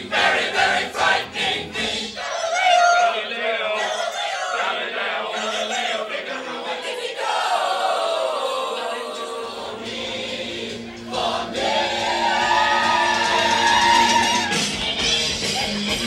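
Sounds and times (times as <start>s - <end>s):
young voices singing together: 0.0s - 14.6s.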